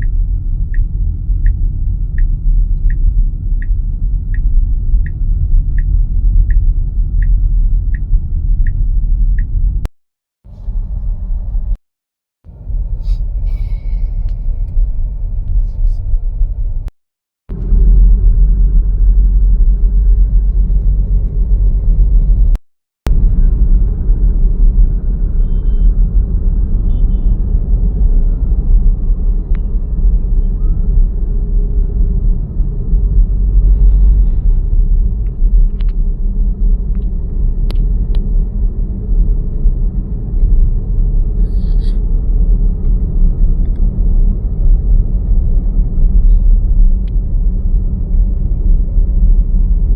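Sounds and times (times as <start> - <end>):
loud low rumble: 0.0 - 9.9, 10.5 - 11.8, 12.5 - 16.9, 17.5 - 49.9.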